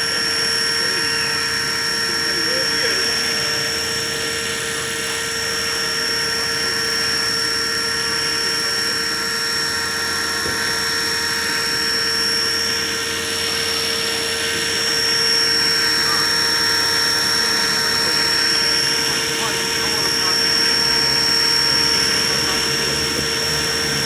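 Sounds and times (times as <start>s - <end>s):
high-pitched motor whine: 0.0s - 24.0s
rotor noise: 0.0s - 24.0s.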